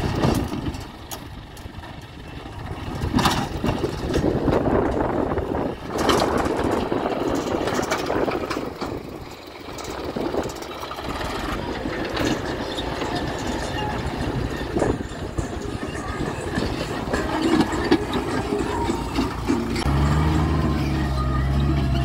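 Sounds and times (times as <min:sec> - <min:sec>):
plough dragging through soil: 0:00.0 - 0:22.0
tractor diesel engine under load: 0:00.0 - 0:22.0.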